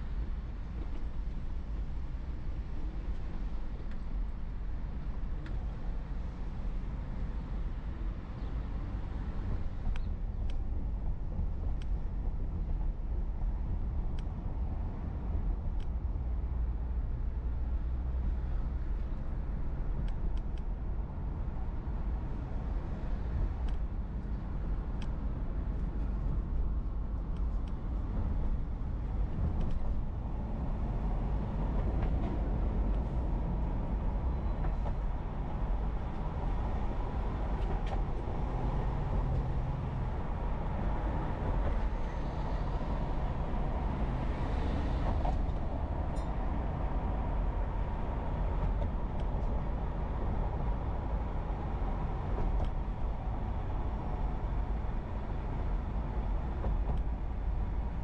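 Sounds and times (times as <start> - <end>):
road and tyre rumble inside car: 0.0 - 58.0.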